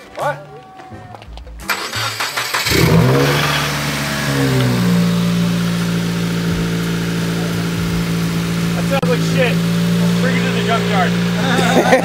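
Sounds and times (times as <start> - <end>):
car engine starting and idling: 1.6 - 12.0.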